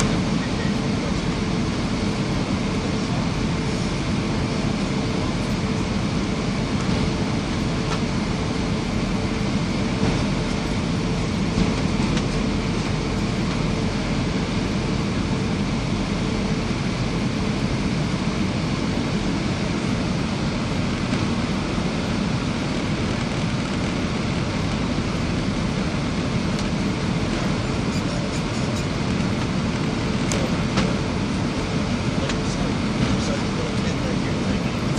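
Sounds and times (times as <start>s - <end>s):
aircraft cabin engine rush: 0.0s - 34.9s.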